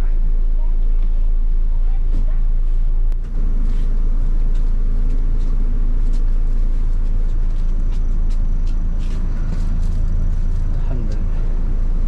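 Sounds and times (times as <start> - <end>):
bus engine low rumble: 0.0 - 12.0.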